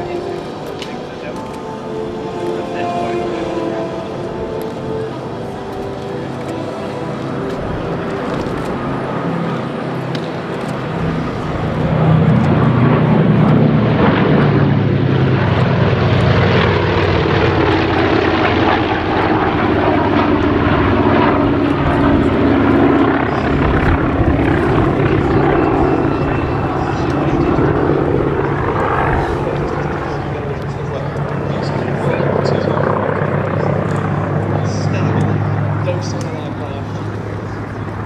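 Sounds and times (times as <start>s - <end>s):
propeller aircraft flying past: 0.0s - 38.0s.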